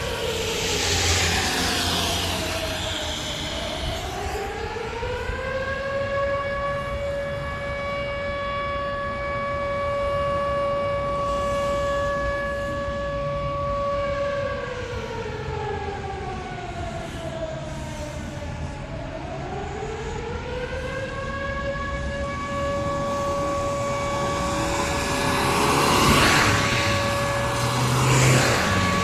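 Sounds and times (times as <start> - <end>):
tornado warning siren wailing: 0.0 - 29.0.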